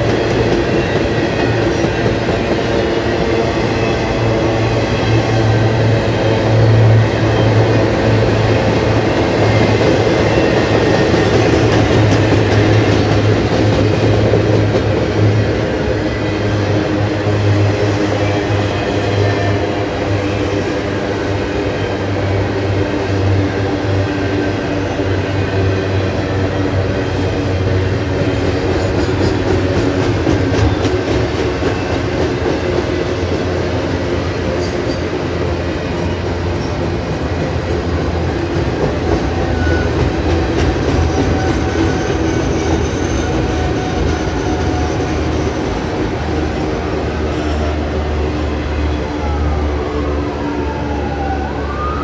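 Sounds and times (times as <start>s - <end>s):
rumble of train wheels on rail: 0.0s - 51.9s.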